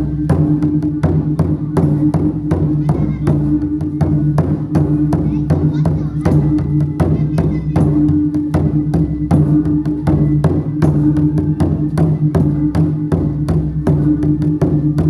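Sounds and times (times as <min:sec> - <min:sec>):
gong and drum percussion: 0:00.0 - 0:15.0.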